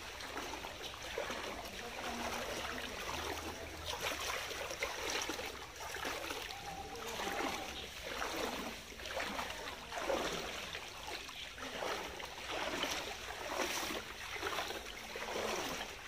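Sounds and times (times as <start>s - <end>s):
feet wading through water: 0.0s - 16.0s.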